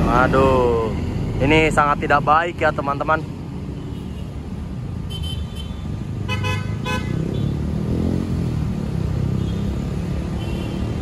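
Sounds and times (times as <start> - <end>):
road traffic engines: 0.0 - 11.0.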